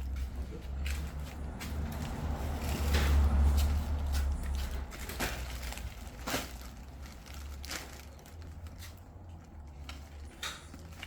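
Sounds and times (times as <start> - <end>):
knocks and bumps of packages: 0.9 - 11.0.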